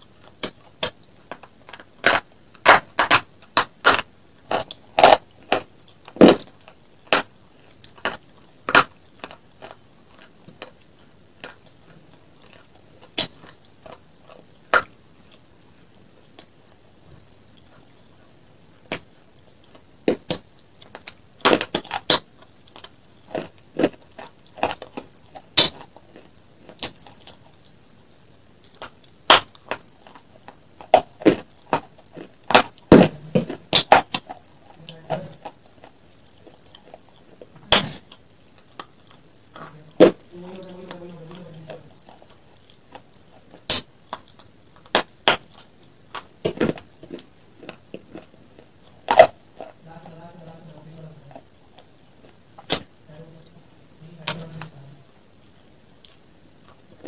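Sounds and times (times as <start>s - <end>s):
crunching and chewing crisp food: 0.0s - 57.0s.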